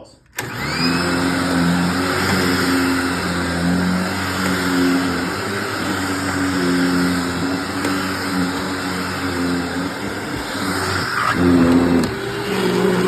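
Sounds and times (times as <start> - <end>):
upright vacuum cleaner running: 0.4 - 13.0.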